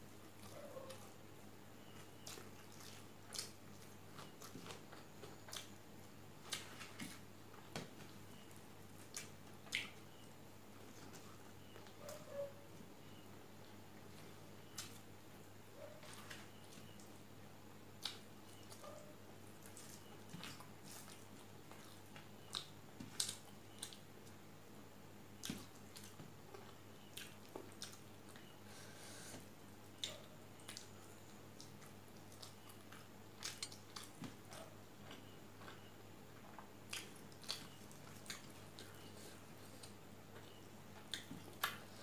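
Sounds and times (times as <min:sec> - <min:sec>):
person chewing food: 0:00.0 - 0:12.3, 0:18.0 - 0:24.4, 0:25.4 - 0:42.0.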